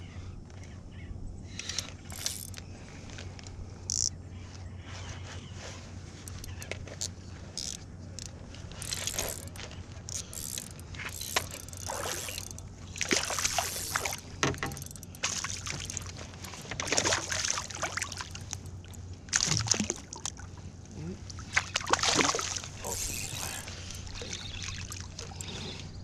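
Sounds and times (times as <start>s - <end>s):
fishing gear clicking in canoe: 1.5s - 4.2s, 6.2s - 20.5s, 21.3s - 26.0s.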